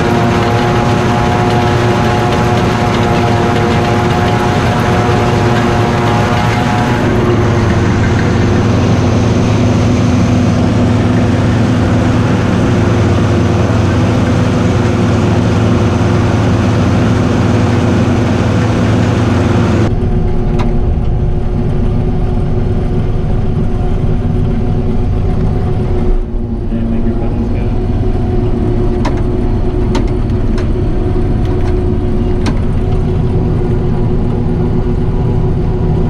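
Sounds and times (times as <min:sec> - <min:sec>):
diesel engine hum: 0:00.0 - 0:36.0
mechanical rush: 0:00.0 - 0:36.0.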